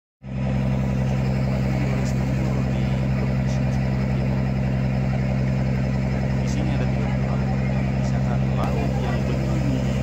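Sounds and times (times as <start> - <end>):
boat engine drone: 0.2 - 10.0.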